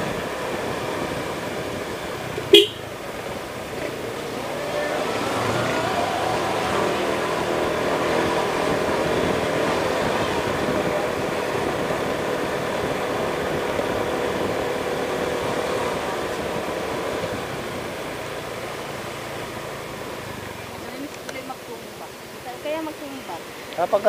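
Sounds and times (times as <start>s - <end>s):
scooter engine running: 0.0s - 23.5s
wind and road noise: 0.0s - 24.0s.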